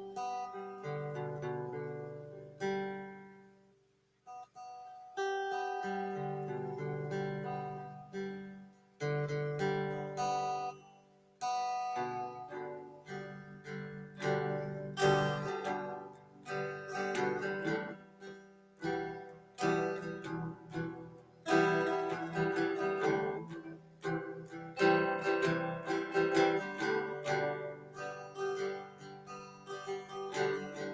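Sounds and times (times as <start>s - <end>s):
acoustic guitar music: 0.0s - 30.9s.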